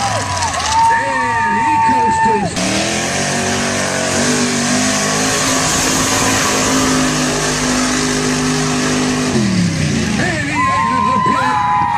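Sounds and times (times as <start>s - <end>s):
truck engine at high revs: 0.0s - 11.5s
tires churning mud: 0.0s - 11.9s.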